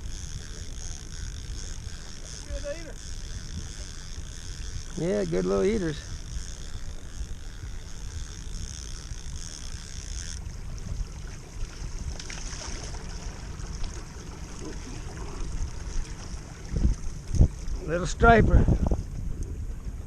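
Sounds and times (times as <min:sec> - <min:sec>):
water splashing against boat: 0:00.0 - 0:20.0
wind buffeting microphone: 0:00.0 - 0:20.0.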